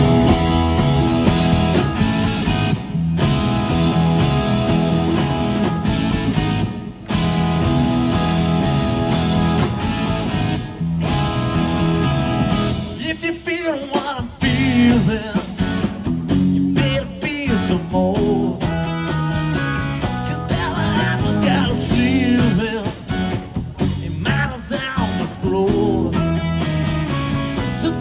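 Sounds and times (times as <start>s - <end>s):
rock band playing sustained chords: 0.0s - 28.0s.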